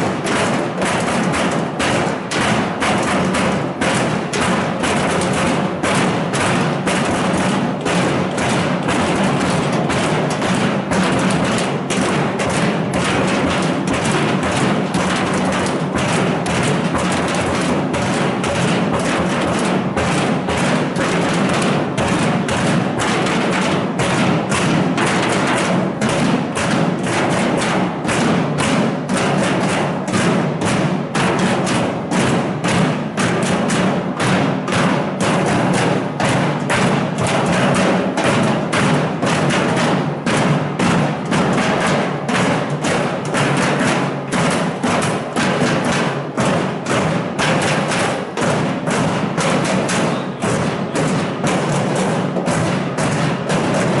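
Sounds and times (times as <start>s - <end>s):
crowd knocking and drumming: 0.0s - 54.0s.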